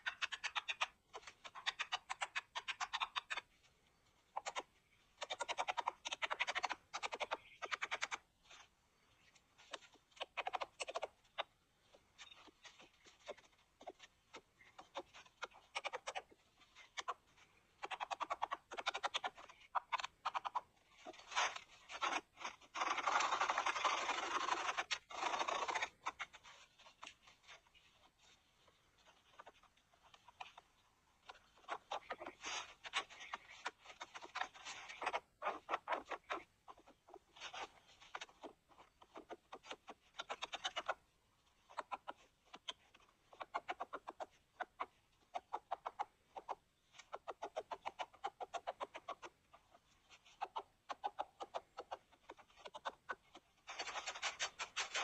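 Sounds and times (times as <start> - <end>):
scratching and scraping: 0.0 - 55.0.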